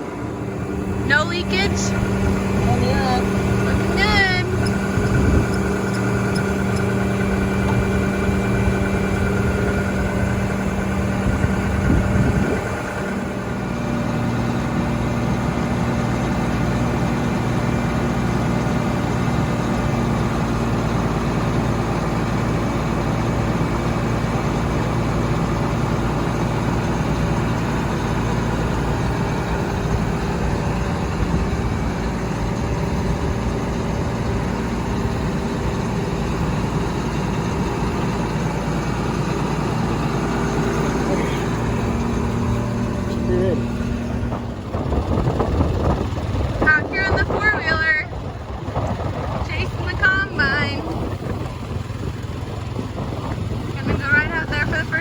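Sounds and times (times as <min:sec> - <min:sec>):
harvester engine idling: 0:00.0 - 0:55.0.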